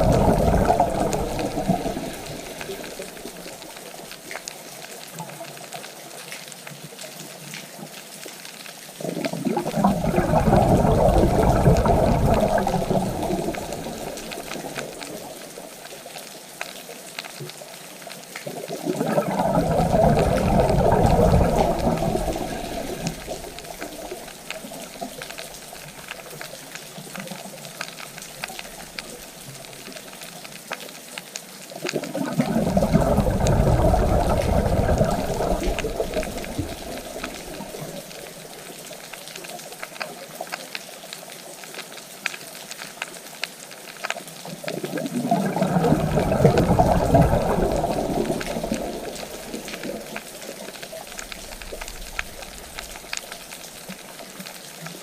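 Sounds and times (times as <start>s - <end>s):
water rushing: 0.0s - 6.0s, 8.8s - 16.3s, 18.2s - 30.7s, 31.7s - 40.1s, 44.0s - 55.0s
faint crackling clicks: 0.0s - 55.0s.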